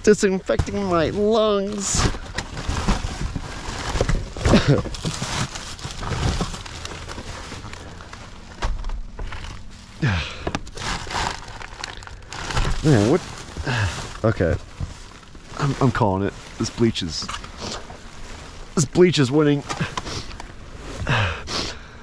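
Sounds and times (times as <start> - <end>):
rummaging through trash: 0.0 - 21.3.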